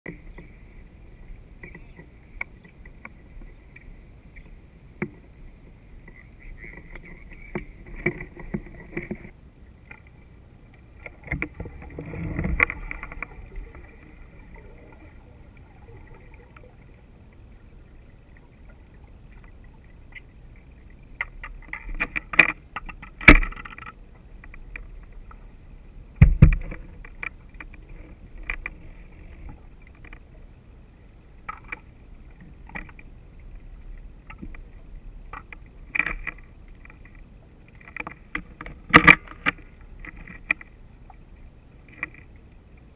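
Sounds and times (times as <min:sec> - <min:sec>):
faint steady hum: 0:00.1 - 0:42.9.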